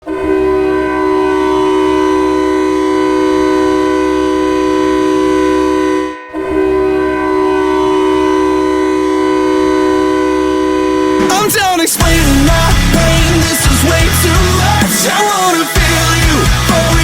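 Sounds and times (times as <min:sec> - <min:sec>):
goal air horn chord: 0:00.0 - 0:17.0.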